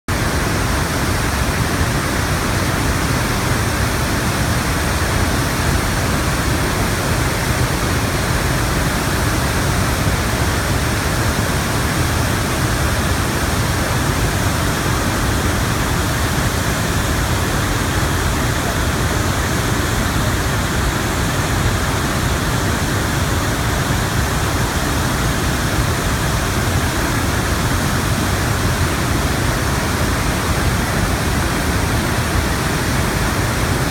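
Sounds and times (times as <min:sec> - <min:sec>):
massive waterfall rushing: 0:00.1 - 0:33.9.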